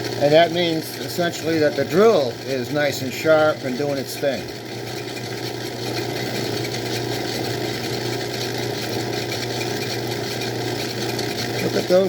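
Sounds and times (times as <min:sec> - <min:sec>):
drill bit cutting: 0:00.0 - 0:12.0
lathe motor humming: 0:00.0 - 0:12.0.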